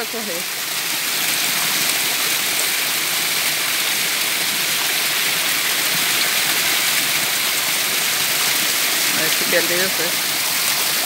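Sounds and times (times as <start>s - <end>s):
waterfall splashing on rock: 0.0s - 11.0s.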